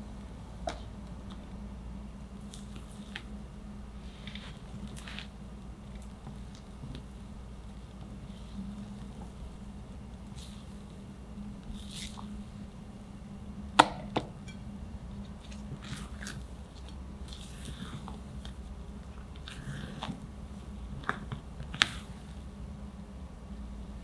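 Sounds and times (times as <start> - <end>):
low steady hum: 0.0 - 24.0
batter swishing and squishing: 0.6 - 13.7, 14.9 - 23.5.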